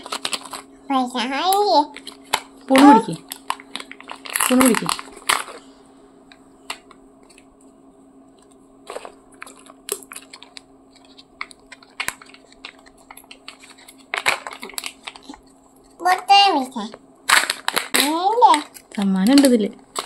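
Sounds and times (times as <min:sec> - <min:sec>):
candy packet crinkling: 0:00.0 - 0:00.7, 0:01.5 - 0:05.7, 0:08.8 - 0:20.0.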